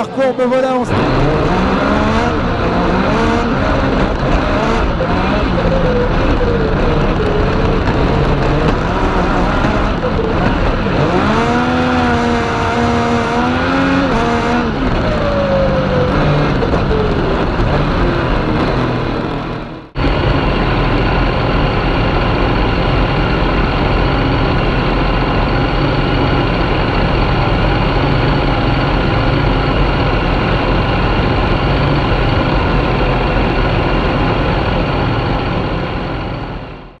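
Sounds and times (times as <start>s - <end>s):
motorcycle engine revving: 0.8s - 37.0s.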